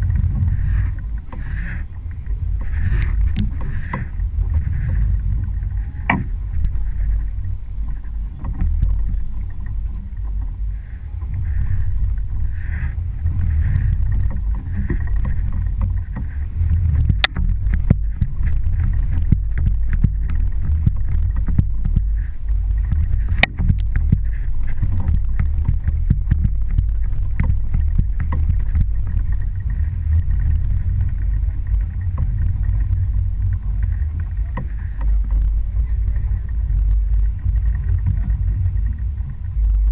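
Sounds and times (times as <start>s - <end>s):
boat motor running: 0.0s - 39.9s
water and wind noise: 0.0s - 39.9s.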